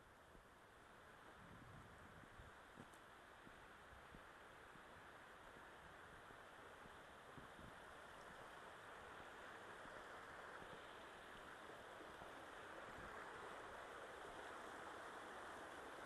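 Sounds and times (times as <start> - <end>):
creek running over stones: 2.6 - 16.0.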